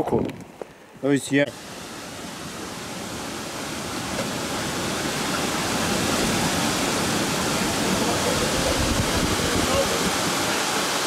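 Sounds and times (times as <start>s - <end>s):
waterfall rushing: 1.5s - 11.0s.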